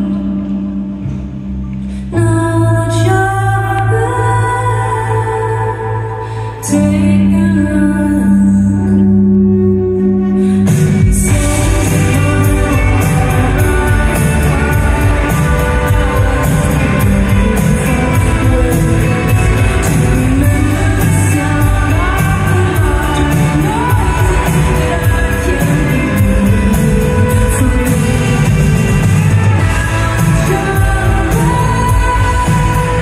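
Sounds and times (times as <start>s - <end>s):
woman singing: 0.0s - 1.0s, 2.0s - 33.0s
drums: 0.0s - 7.3s, 10.3s - 33.0s
bass guitar: 0.0s - 33.0s
electric guitars: 5.8s - 33.0s.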